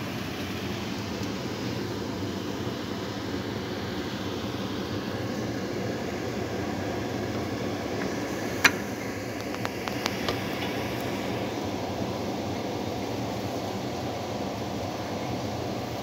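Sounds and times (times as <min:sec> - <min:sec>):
range hood fan whirring: 0:00.0 - 0:16.0.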